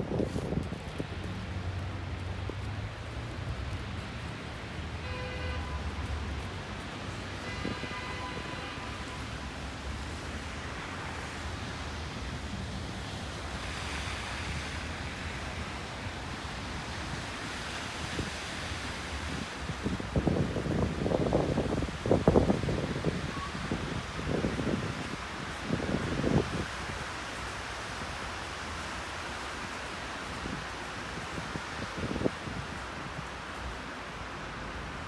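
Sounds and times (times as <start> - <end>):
wind on microphone: 0.0 - 34.4
low city rumble: 0.0 - 35.0.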